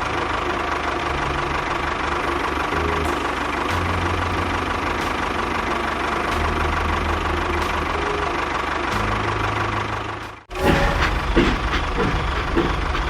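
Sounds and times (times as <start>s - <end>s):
engine running with knocking chug: 0.0s - 13.0s.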